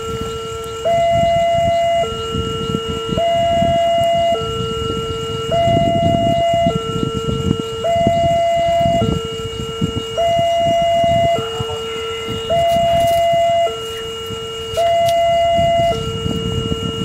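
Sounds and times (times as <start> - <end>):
level crossing two-tone alarm: 0.0 - 17.0.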